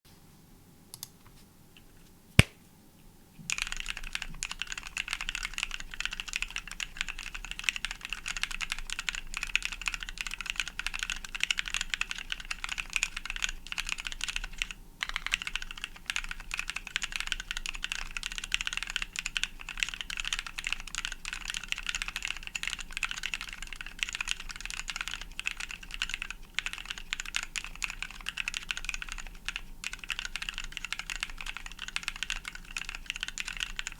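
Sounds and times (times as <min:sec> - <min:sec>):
mechanical keyboard typing: 0:03.5 - 0:33.9.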